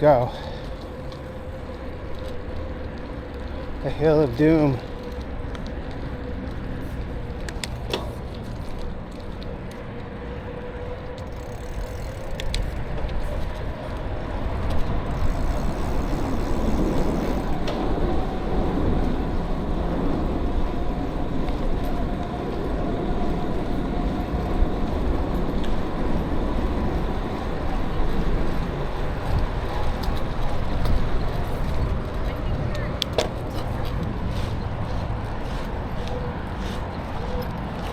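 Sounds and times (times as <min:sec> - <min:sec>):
bicycle tyre noise: 0:00.0 - 0:37.9
wind over microphone: 0:00.0 - 0:37.9.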